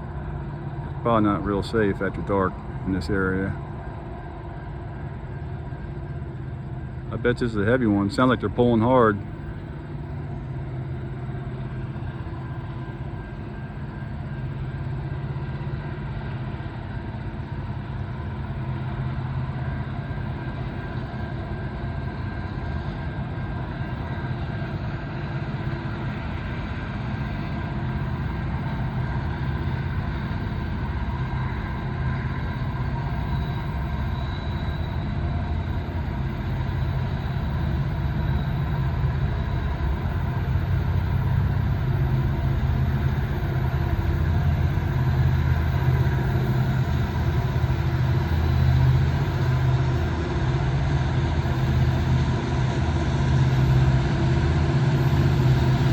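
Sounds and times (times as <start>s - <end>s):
diesel locomotive engines working hard: 0.0s - 55.9s.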